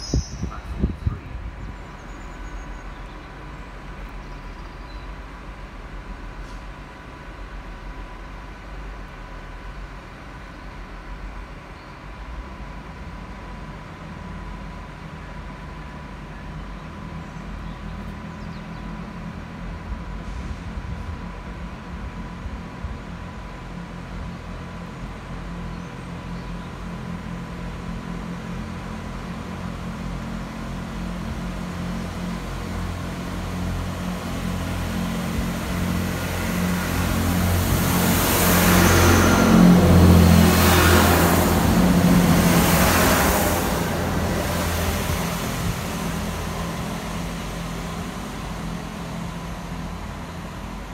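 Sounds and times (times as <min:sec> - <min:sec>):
diesel train engine hum: 0:00.0 - 0:50.9
wheel and rail noise: 0:00.0 - 0:50.9.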